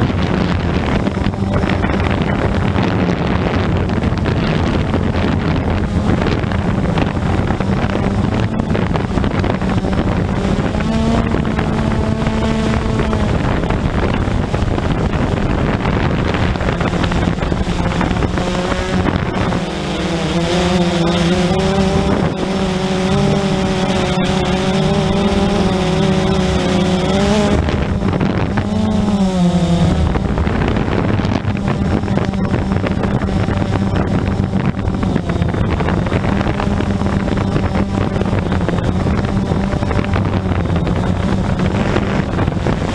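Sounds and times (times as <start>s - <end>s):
drone propellers humming: 0.0s - 42.9s
wind noise on microphone: 0.0s - 42.9s.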